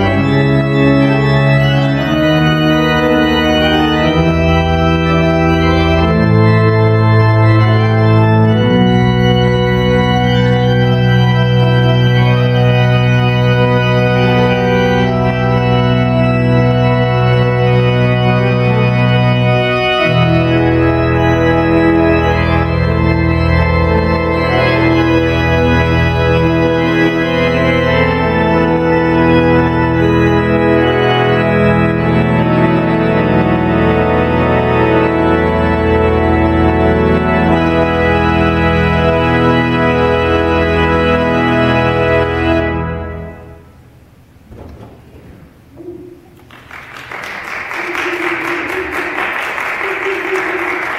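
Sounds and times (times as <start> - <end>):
pipe organ chords: 0.0 - 50.9.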